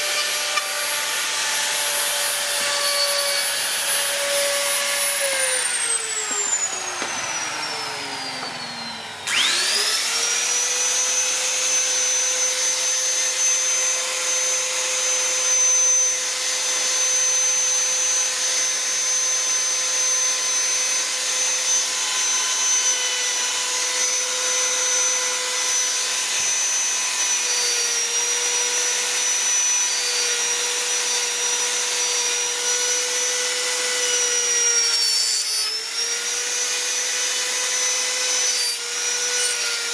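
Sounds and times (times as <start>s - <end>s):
burr cutting wood: 0.0s - 39.9s
rotary tool whine: 0.0s - 39.9s.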